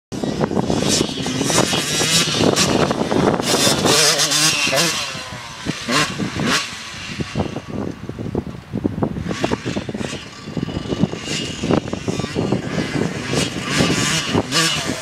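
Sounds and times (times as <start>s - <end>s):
dirt bike engine revving: 0.1s - 15.0s.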